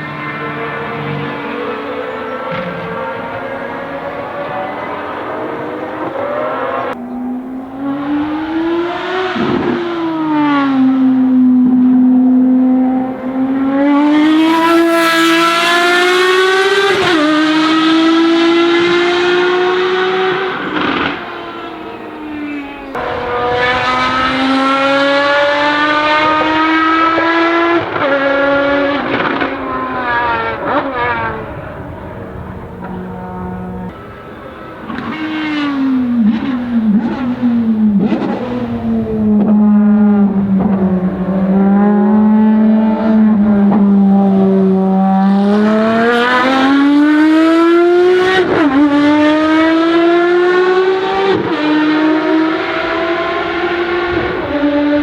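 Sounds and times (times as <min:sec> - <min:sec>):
racing engine at high revs: 0:00.0 - 0:55.0.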